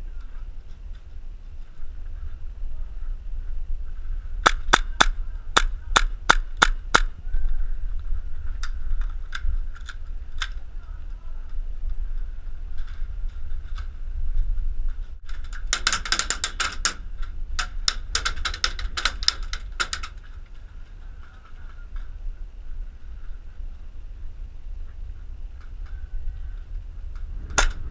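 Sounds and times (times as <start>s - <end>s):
wind and microphone handling rumble: 0.0s - 27.9s.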